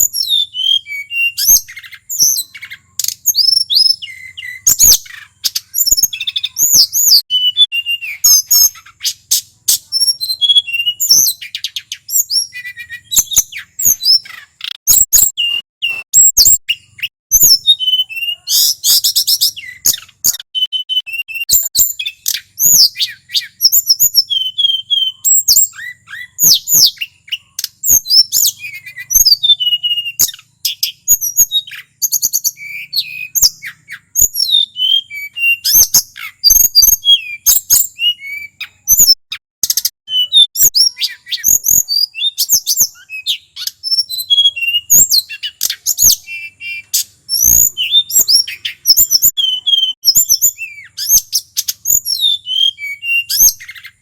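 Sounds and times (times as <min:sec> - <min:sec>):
songbird singing chirps and trills: 0:00.0 - 0:54.0.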